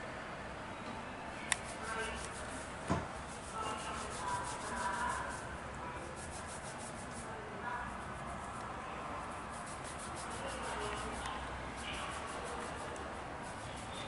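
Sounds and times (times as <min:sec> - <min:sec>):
fingers rubbing wet hair: 0:01.5 - 0:14.0.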